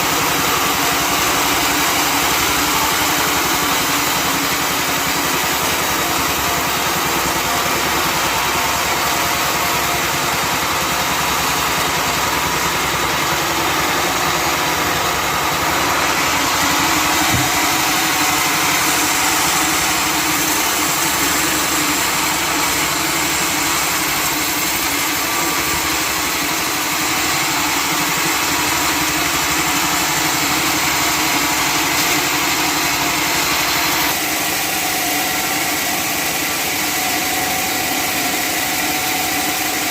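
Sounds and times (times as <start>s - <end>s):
sawmill motor and saw drone: 0.0s - 39.9s.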